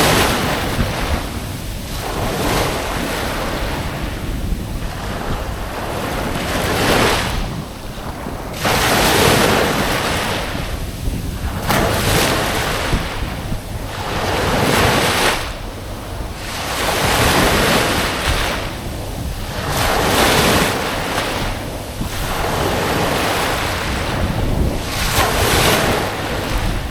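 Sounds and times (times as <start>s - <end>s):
waves breaking on beach: 0.0s - 26.9s
wind rumble on microphone: 0.0s - 26.9s.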